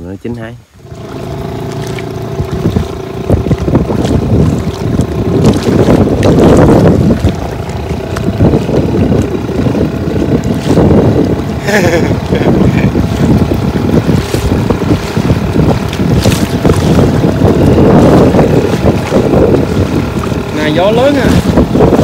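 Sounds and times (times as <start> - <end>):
wind buffeting microphone: 0.1 - 22.0.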